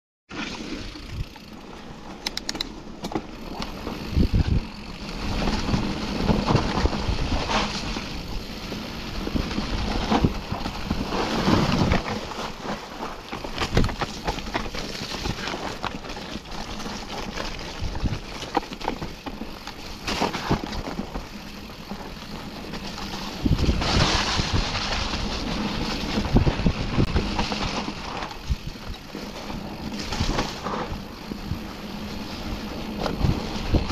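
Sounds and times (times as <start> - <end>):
bike knocking and rattling: 0.3 - 33.9
tyres rolling through mud and leaves: 0.3 - 33.9.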